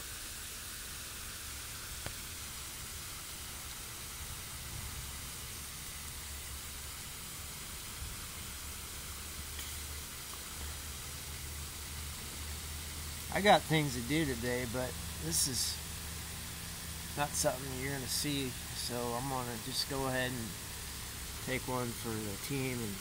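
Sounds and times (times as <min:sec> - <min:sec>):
steady background hiss: 0:00.0 - 0:23.0
low uneven rumble: 0:01.5 - 0:23.0.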